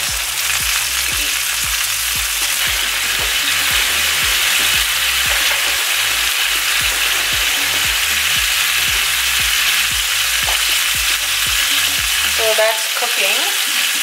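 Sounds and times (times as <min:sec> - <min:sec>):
background music with steady beat: 0:00.0 - 0:14.0
food sizzling in a frying pan: 0:00.0 - 0:14.0.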